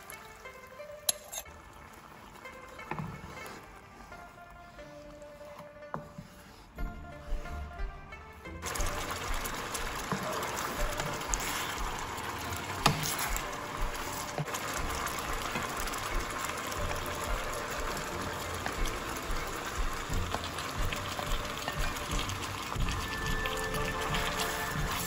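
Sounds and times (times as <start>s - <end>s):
sauce boiling in a pan: 0.0s - 7.9s, 8.6s - 25.0s.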